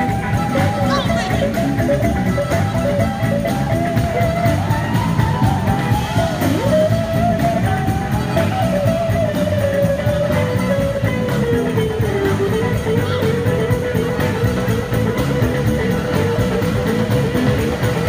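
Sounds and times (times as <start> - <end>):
electric guitar bending pitch: 0.0 - 18.0
soul band playing: 0.0 - 18.0.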